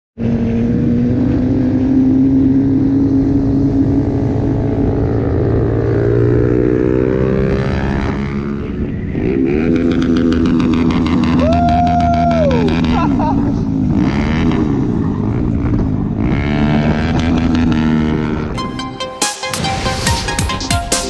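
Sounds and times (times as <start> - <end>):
motorcycle engines cruising: 0.2 - 19.2.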